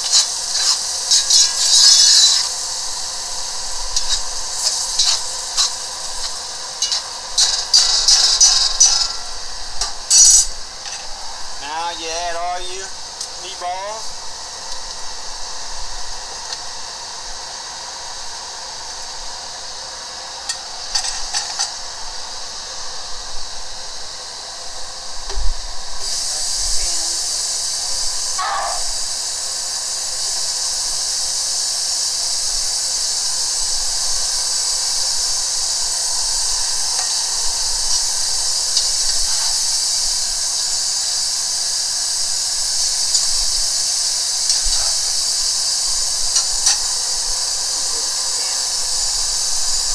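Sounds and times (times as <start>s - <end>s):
food sizzling in a pot: 0.0s - 49.9s.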